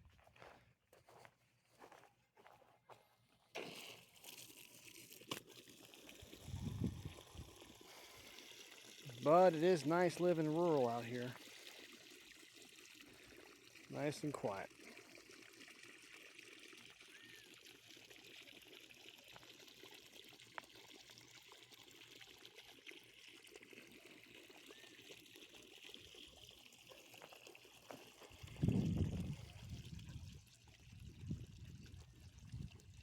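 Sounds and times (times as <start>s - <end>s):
water pouring onto ground: 3.5s - 33.0s.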